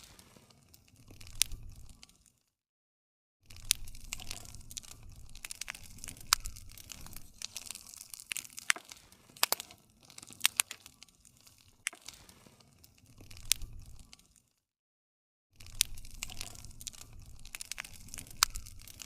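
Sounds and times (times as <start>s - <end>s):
wood fire crackling and popping: 0.0s - 2.4s, 3.5s - 14.6s, 15.6s - 19.0s.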